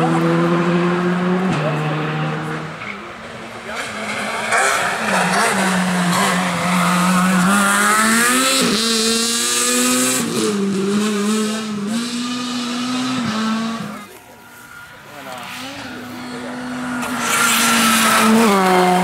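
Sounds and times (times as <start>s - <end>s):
rally car engine pulling hard: 0.0s - 19.0s.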